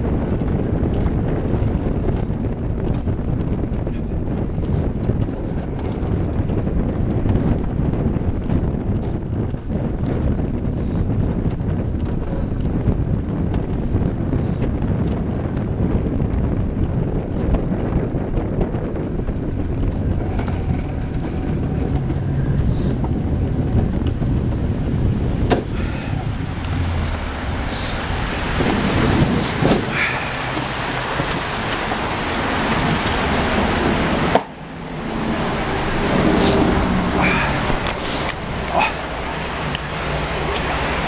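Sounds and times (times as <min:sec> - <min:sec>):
sled rumbling on steel rails: 0:00.0 - 0:41.0
wind buffeting microphone: 0:00.0 - 0:41.0.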